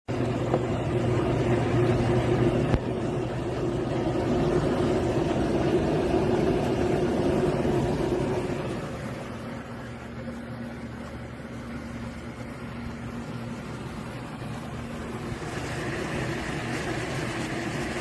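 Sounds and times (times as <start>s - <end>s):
sump pump motor hum: 0.1s - 18.0s.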